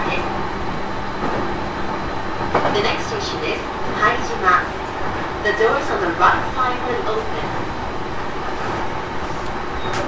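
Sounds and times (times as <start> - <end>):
air conditioning running: 0.0 - 10.0
electric train running noise: 0.0 - 10.0.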